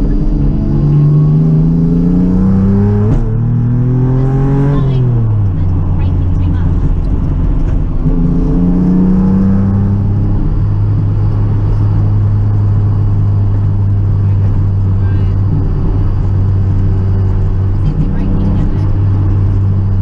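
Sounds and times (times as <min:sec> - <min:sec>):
car engine droning inside cabin: 0:00.0 - 0:20.0.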